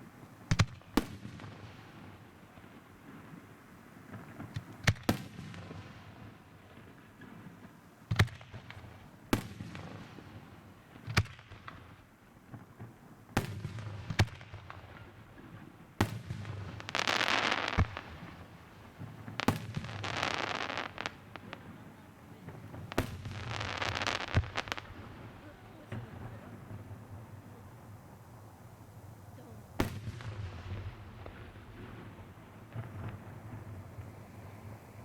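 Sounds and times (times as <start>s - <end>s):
firework crackling: 0.0s - 35.0s.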